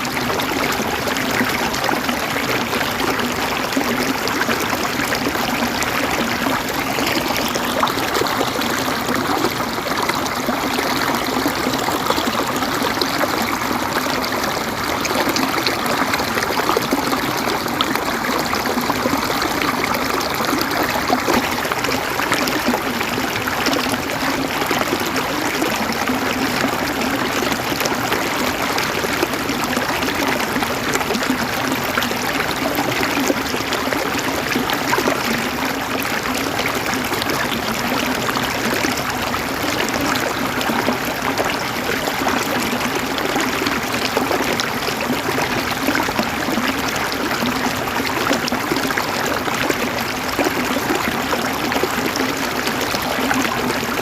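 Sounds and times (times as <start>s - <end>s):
river water over rocks: 0.0s - 54.0s.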